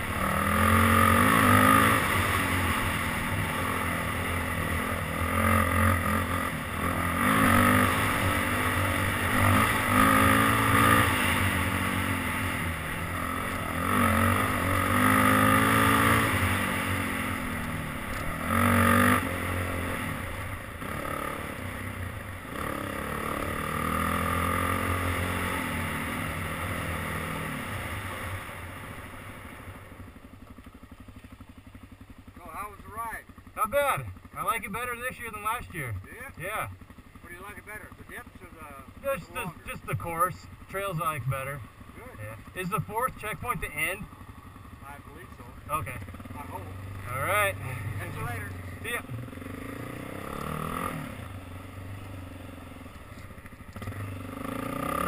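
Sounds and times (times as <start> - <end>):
quad engine revving: 0.0 - 29.8, 32.4 - 44.2, 44.8 - 55.0.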